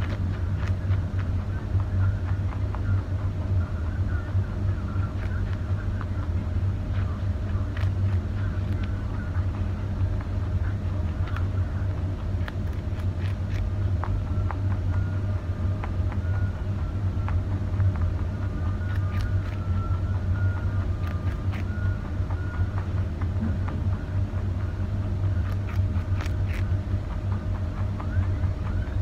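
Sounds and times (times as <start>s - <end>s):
rabbit gnawing carrot: 0.0s - 29.0s
steady low hum: 0.0s - 29.0s.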